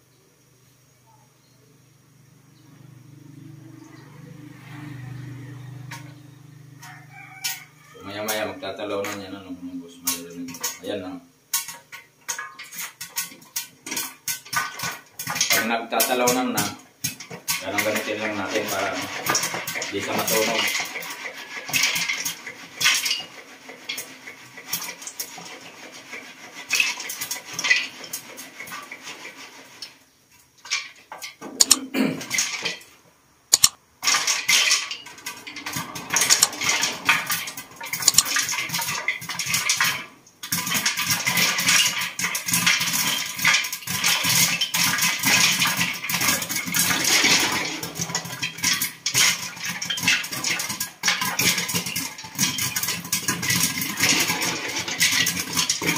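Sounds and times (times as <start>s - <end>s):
popcorn popping in a pot: 2.6s - 55.9s.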